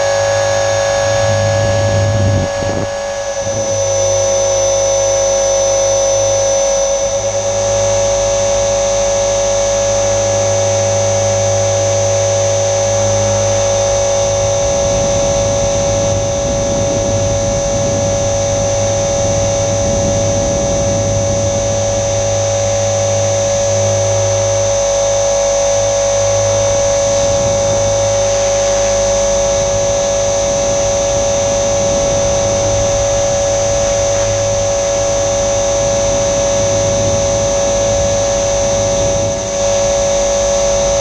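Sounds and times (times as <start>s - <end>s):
electric motor whine: 0.0s - 41.0s
spinning rotor hum: 0.0s - 41.0s.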